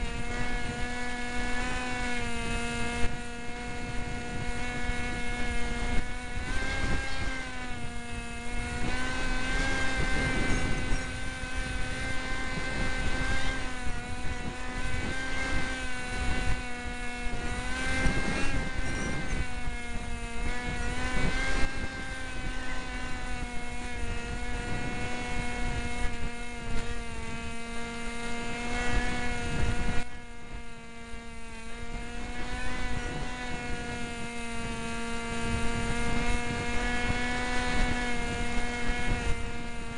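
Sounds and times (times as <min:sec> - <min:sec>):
model plane motor whine: 0:00.0 - 0:39.9
wind buffeting microphone: 0:00.0 - 0:39.9.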